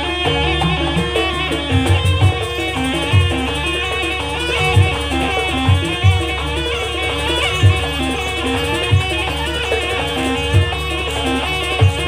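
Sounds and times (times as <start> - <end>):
gamelan ensemble music: 0.0 - 12.0
high wavering melody: 0.0 - 12.0.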